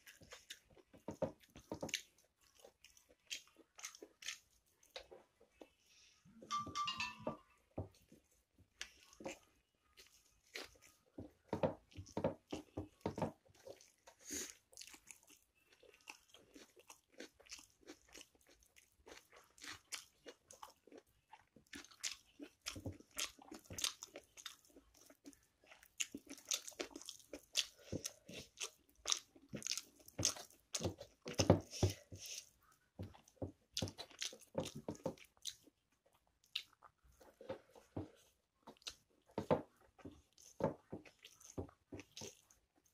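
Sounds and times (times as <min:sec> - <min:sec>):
chewing: 0:00.0 - 0:05.9, 0:07.9 - 0:42.9.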